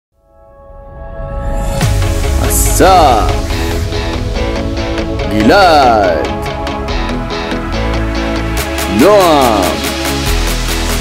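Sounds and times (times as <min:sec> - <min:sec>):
held music chord: 0:01.8 - 0:11.0.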